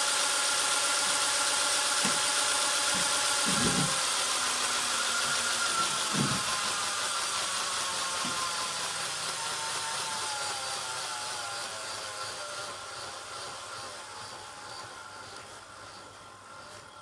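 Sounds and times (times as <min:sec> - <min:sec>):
model train motor whine: 0:00.0 - 0:17.0.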